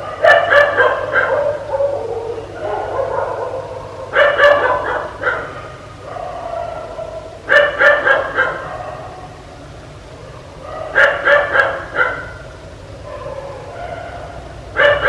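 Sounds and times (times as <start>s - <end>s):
dog barking: 0.0s - 9.4s, 10.2s - 12.4s, 13.0s - 15.0s
dog drawn-out calls: 0.0s - 9.4s, 10.2s - 15.0s.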